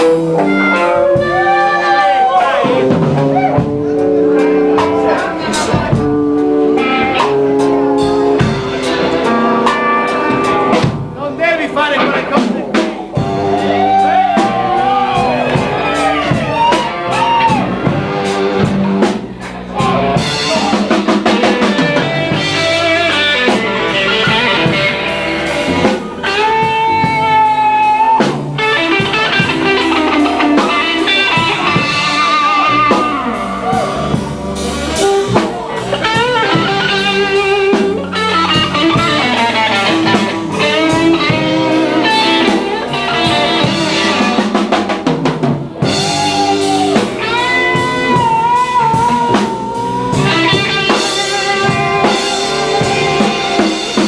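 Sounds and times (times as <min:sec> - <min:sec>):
drum kit: 0:00.0 - 0:54.0
lead guitar bending notes: 0:00.0 - 0:54.0.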